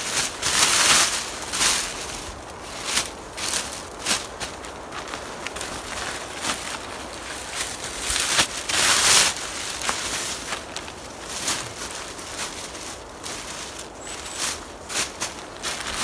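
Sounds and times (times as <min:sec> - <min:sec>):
plastic bags rustling: 0:00.0 - 0:16.0.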